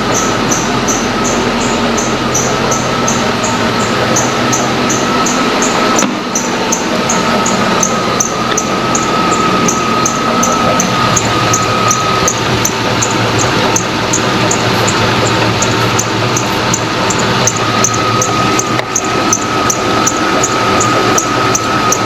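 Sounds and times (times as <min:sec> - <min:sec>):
engine belt drive whine: 0:00.0 - 0:22.0.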